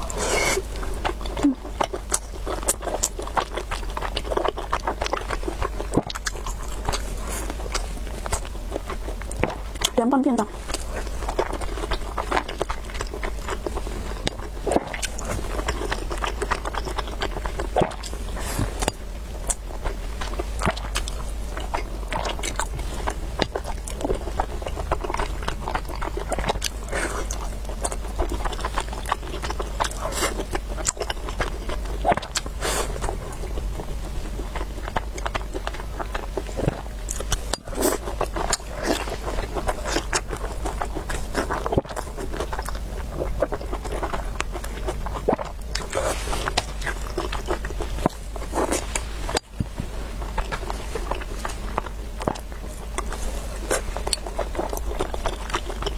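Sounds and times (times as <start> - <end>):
person chewing and biting: 0.0 - 10.0, 10.6 - 55.9.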